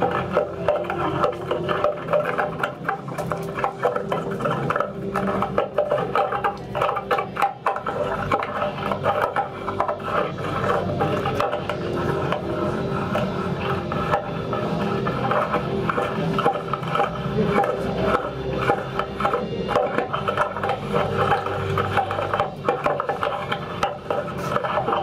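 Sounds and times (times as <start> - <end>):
hair strings scraped and plucked: 0.0 - 25.0.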